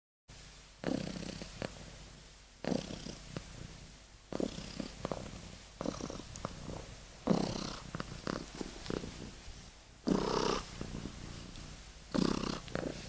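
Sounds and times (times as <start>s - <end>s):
kitten snoring: 0.8s - 13.0s.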